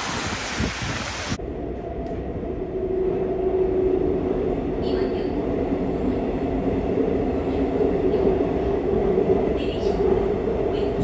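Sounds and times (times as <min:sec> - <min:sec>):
subway motors humming: 0:00.0 - 0:11.0.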